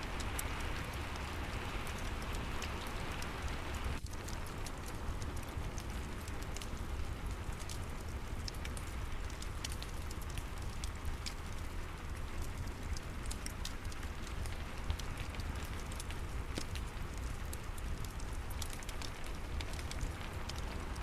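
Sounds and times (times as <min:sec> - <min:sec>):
fireplace crackling: 0:00.0 - 0:21.0
steady rain: 0:00.0 - 0:21.0.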